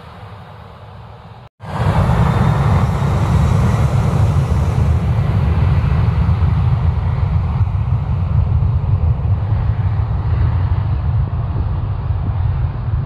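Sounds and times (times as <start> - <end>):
jet engines roaring: 0.0 - 13.0
quieter jet roar: 0.0 - 13.0.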